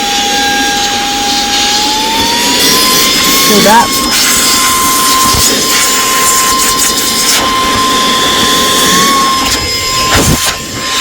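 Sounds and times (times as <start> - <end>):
handheld vacuum blower whining: 0.0 - 11.0.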